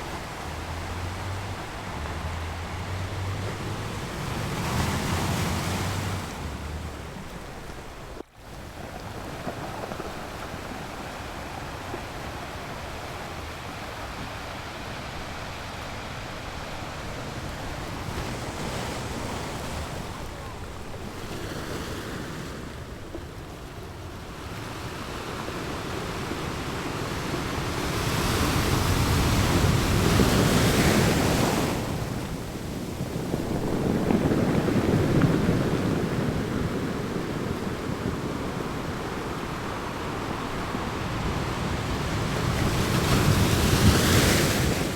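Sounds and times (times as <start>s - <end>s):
waves breaking on a beach: 0.0s - 44.9s.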